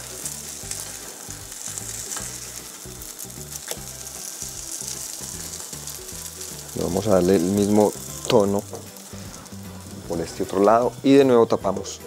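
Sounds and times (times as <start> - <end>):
background music with bass line: 0.0 - 12.0
food sizzling in a pan: 0.0 - 12.0.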